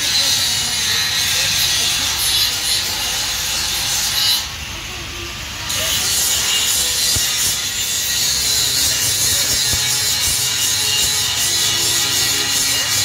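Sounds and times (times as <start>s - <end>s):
electric metalworking tool hissing: 0.0s - 13.0s.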